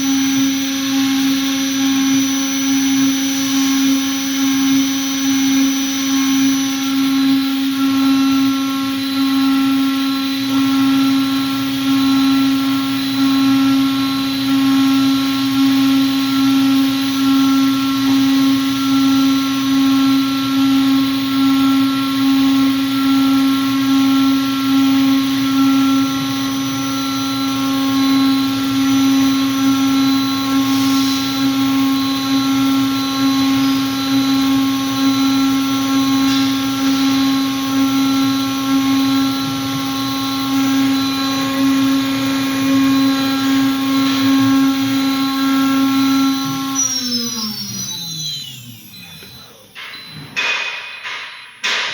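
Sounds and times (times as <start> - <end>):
router spindle whining: 0.0 - 51.9.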